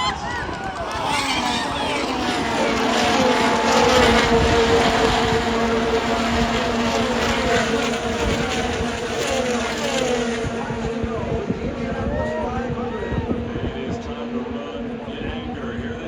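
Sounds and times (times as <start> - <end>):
race cars passing at full throttle: 0.0 - 16.0.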